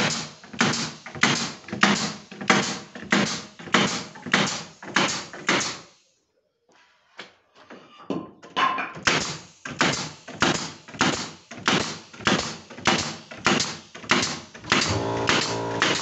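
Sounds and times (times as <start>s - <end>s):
pneumatic pin nailer shots: 0.0s - 5.9s, 9.0s - 16.0s.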